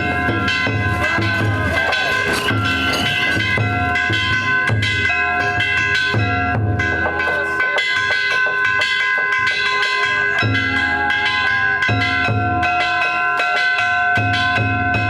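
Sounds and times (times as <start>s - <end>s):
metal gongs ringing: 0.0s - 15.0s
taiko drum beating: 0.0s - 15.0s.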